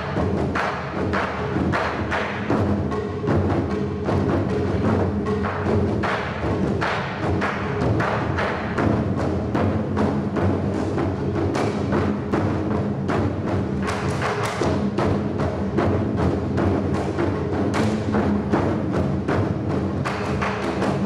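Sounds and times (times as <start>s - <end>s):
percussion ensemble drumming: 0.0s - 21.0s.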